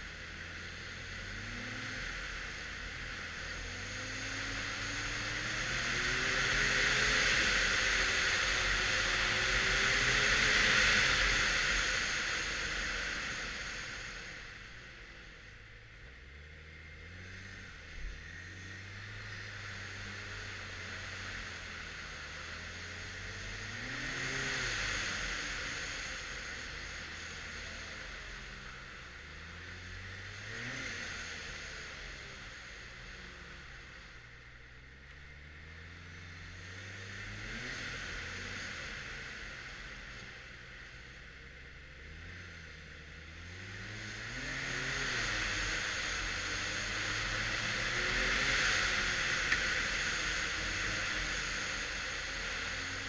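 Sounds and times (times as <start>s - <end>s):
snowmobile engine: 0.0s - 53.0s.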